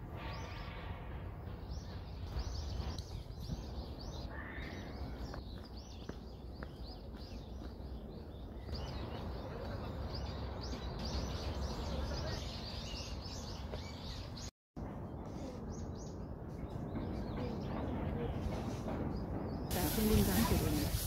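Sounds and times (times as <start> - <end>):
small birds chirping: 1.7 - 21.0.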